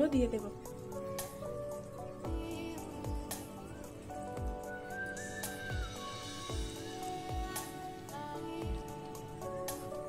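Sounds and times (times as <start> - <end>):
melodic background music: 0.0 - 10.0.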